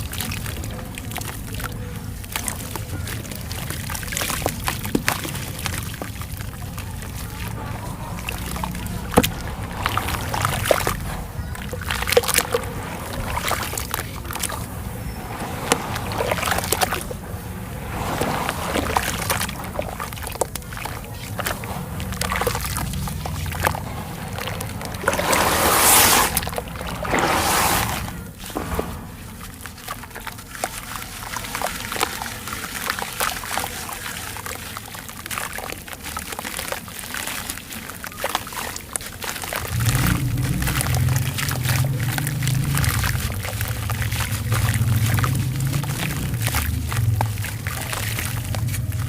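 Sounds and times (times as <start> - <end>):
sand crumbling and crunching: 0.0 - 49.0
water sloshing and splashing: 0.0 - 49.0.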